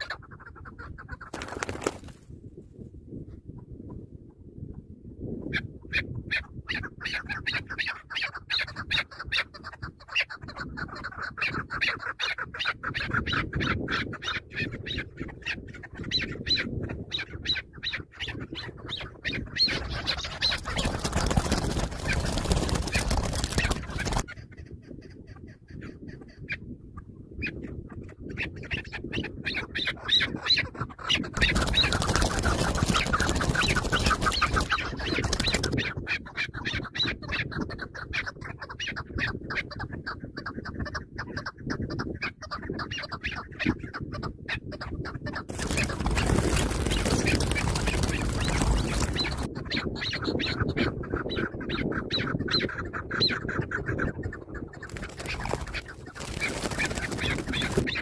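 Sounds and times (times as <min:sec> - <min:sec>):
partridge chuck calls: 0:00.0 - 0:01.4, 0:05.4 - 0:21.2, 0:22.0 - 0:45.9, 0:47.1 - 0:58.0.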